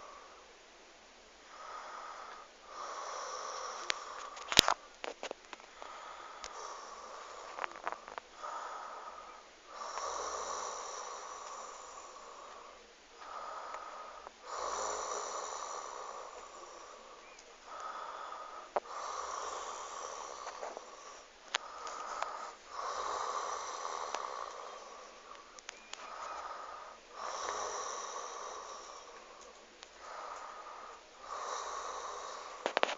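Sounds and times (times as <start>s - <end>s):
woman snoring: 1.5s - 4.6s, 5.8s - 32.9s.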